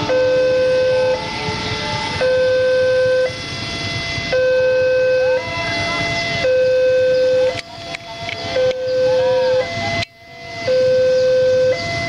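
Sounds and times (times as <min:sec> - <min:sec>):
two-tone crossing alarm: 0:00.0 - 0:12.0.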